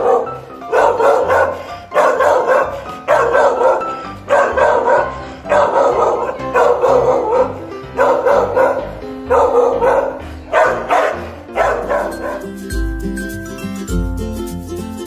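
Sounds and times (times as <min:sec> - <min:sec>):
dog barking: 0:00.0 - 0:12.4
background music with bass line: 0:02.1 - 0:15.0.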